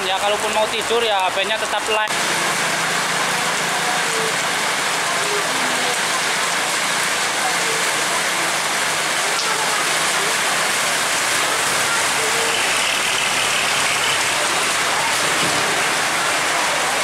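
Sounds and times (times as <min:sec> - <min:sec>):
heavy rain hiss: 0:00.0 - 0:17.0
tyres on wet road: 0:00.0 - 0:17.0.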